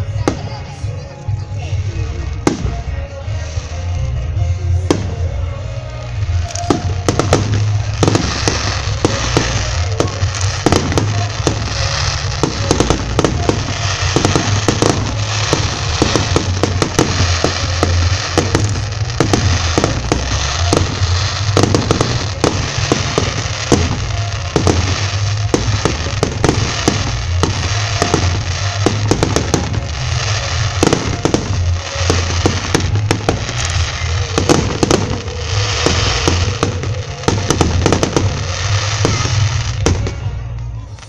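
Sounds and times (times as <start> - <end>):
fireworks bangs and crackles: 0.0 - 41.0
hiss of burning sparks: 6.0 - 39.8.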